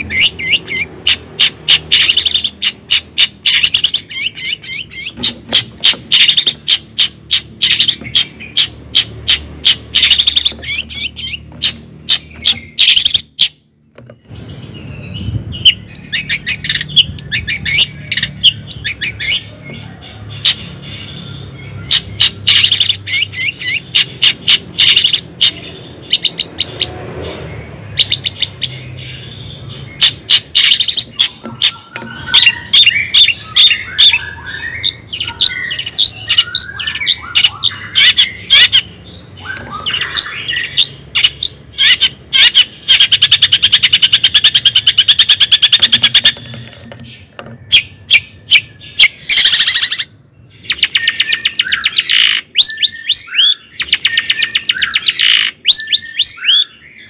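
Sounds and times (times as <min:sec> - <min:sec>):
bird chirping and squawking: 0:00.0 - 0:57.0
bird trill: 0:00.0 - 0:57.0.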